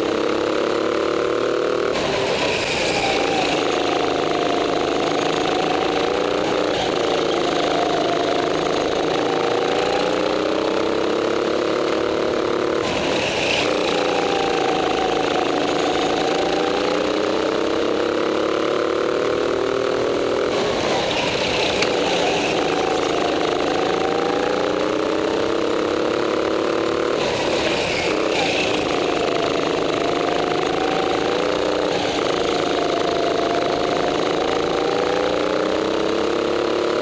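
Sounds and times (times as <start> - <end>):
go-kart engine revving: 0.0 - 37.0.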